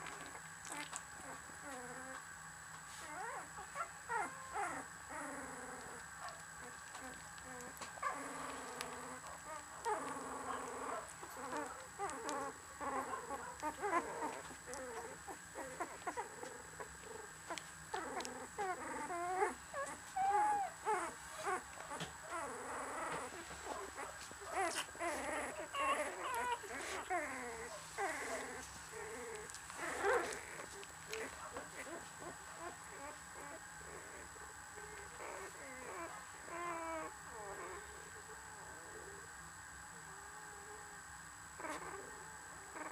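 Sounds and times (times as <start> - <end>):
puppies whimpering and squeaking: 0.0 - 2.3, 2.9 - 37.9, 41.6 - 42.1.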